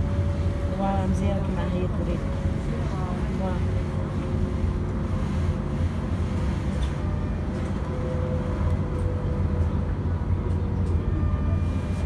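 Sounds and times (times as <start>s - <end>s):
tram low rumble: 0.0s - 12.0s.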